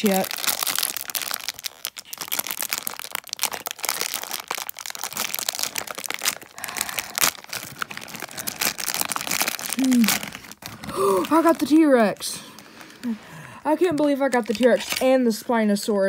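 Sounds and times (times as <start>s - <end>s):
foil packet crinkling: 0.0s - 15.3s.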